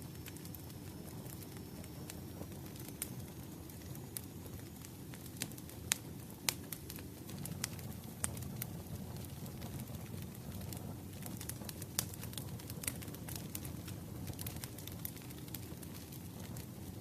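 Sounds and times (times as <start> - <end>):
firewood crackling and popping: 0.0 - 17.0
flames rumbling: 0.0 - 17.0.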